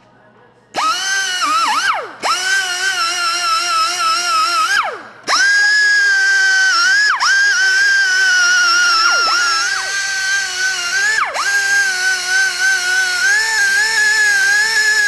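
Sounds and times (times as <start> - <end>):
rotary power tool whining: 0.8 - 15.0.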